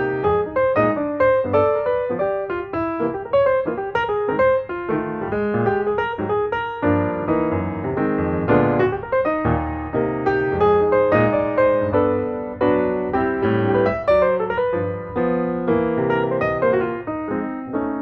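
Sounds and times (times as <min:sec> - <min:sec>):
piano melody over chords: 0:00.0 - 0:18.0.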